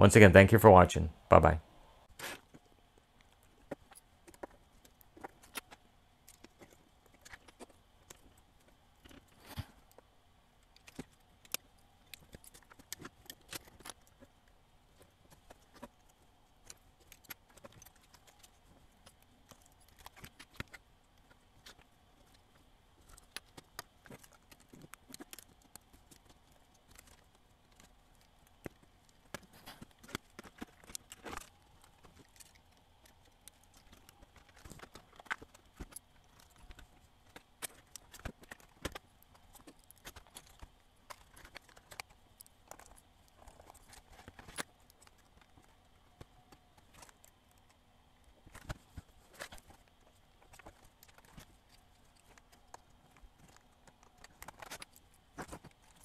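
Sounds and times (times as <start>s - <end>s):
small plastic parts clicking: 2.4s - 56.0s.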